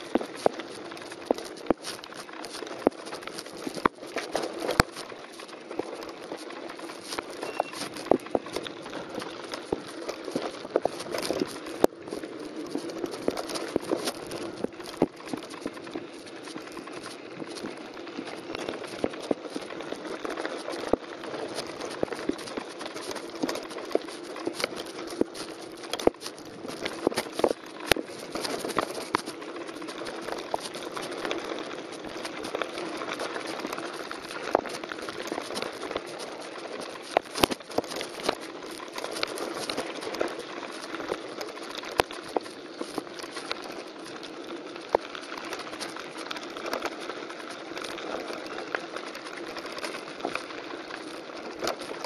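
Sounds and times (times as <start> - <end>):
bike tyres crunching on gravel: 0.0 - 52.0.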